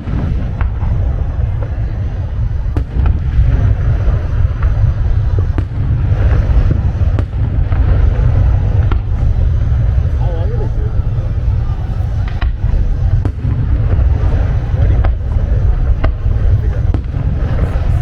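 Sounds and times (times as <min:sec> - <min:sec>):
fireworks booming: 0:00.0 - 0:18.0
fireworks sharp cracks: 0:00.0 - 0:18.0.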